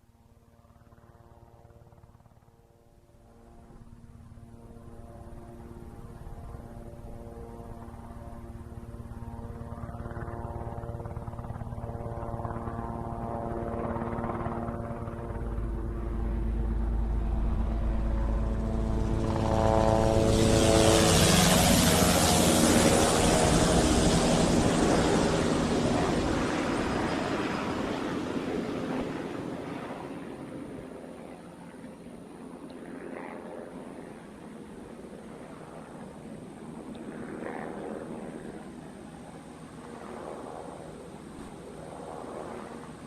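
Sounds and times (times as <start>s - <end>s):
helicopter flying over: 0.0s - 43.0s.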